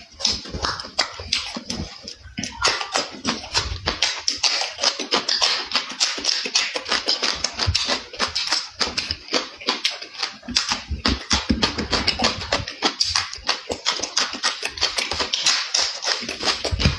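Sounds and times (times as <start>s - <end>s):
close-up chewing and smacking: 0.0s - 16.9s.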